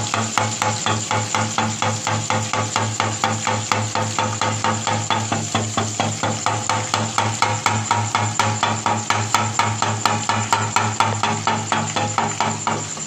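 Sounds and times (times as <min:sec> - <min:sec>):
batter frying in hot oil: 0:00.0 - 0:13.0.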